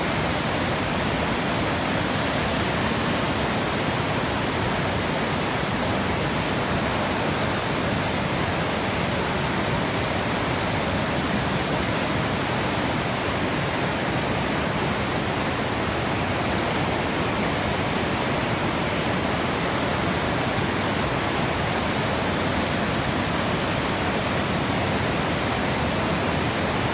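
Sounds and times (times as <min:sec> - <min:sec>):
rushing water: 0:00.0 - 0:26.9.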